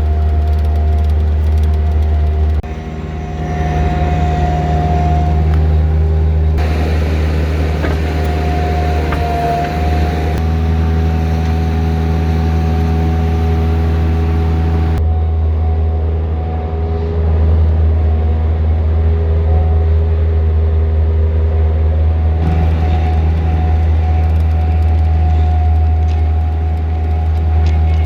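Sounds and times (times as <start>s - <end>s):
diesel engine running: 0.0s - 28.0s
steady whine: 0.0s - 28.0s.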